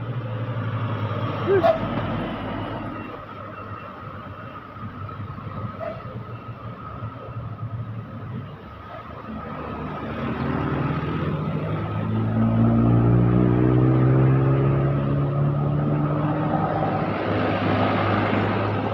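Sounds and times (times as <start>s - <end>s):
diesel engine passing by: 0.0s - 18.9s.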